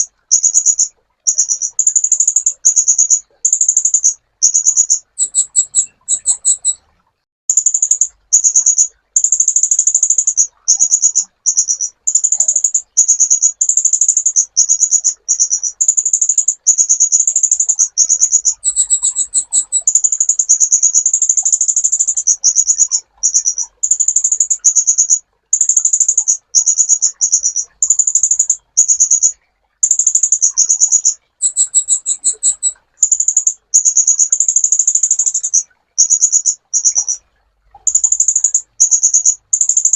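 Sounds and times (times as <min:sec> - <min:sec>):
bird singing high trills: 0:00.0 - 0:06.9, 0:07.5 - 0:25.2, 0:26.0 - 0:37.2.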